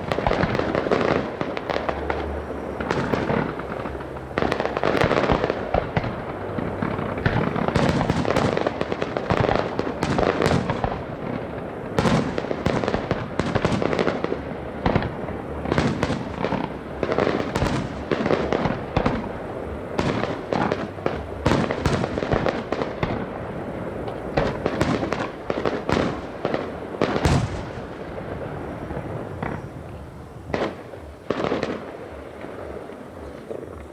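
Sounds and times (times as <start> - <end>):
firework crackle: 0.0 - 33.9.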